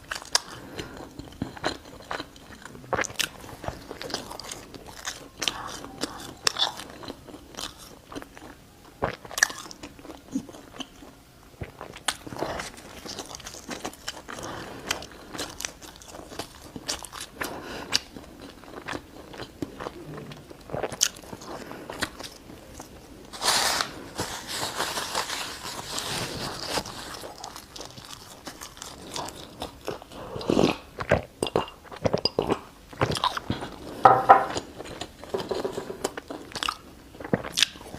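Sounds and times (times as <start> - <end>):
bread being bitten and chewed: 0.0 - 37.9.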